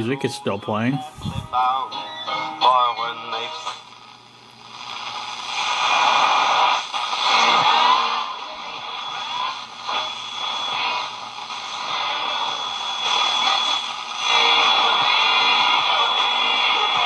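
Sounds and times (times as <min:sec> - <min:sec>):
radio static hiss and crackle: 0:00.0 - 0:17.0.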